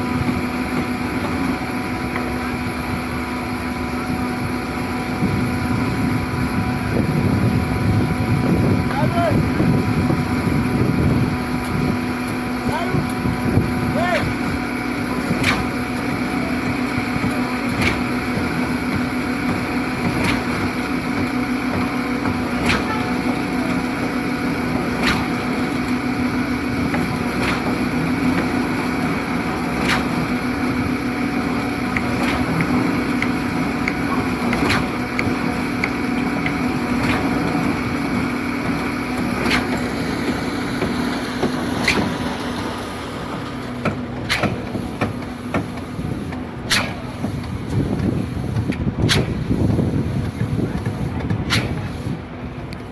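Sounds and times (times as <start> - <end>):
concrete pump running: 0.0 - 52.9.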